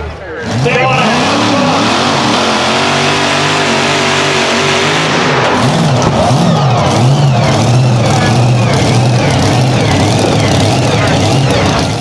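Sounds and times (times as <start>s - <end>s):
tractor engine at high revs: 0.0s - 12.0s.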